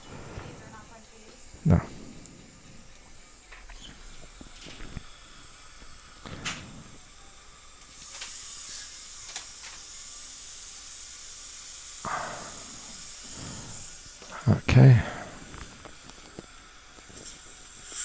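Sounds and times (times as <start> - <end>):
dental drill whining: 0.0 - 18.0.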